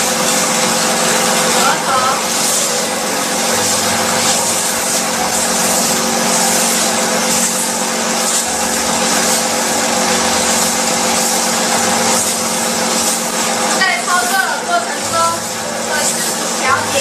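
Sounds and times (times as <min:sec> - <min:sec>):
pump hum: 0:00.0 - 0:17.0.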